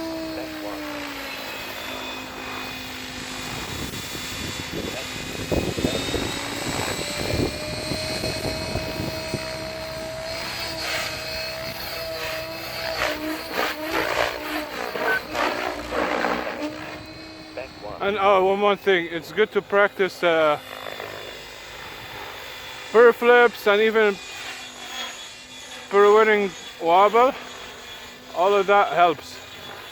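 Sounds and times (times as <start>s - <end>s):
helicopter blade noise bursts: 0.0s - 29.9s
helicopter motor and rotor whine: 0.0s - 29.9s.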